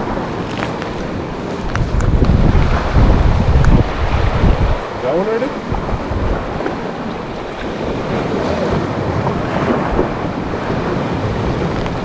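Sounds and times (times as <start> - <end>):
wash of sea water: 0.0 - 12.0
wind buffeting microphone: 0.0 - 12.0.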